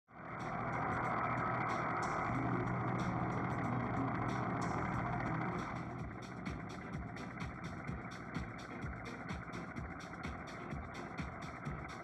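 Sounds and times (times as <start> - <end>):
truck engine running: 0.1 - 12.0.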